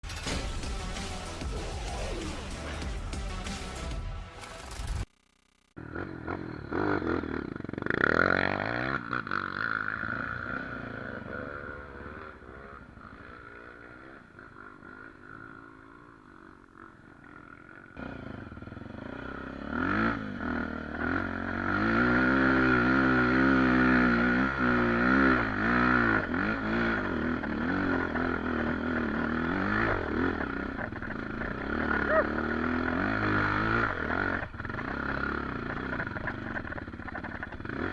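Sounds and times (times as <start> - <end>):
dirt bike engine revving: 5.8 - 37.9.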